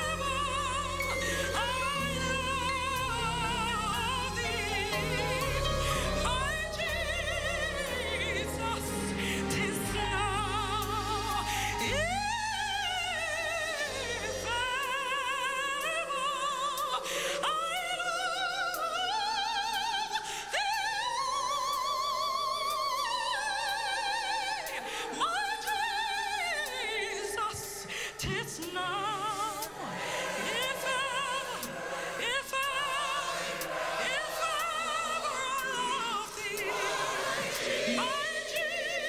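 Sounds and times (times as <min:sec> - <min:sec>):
woman singing with vibrato: 0:00.0 - 0:39.0.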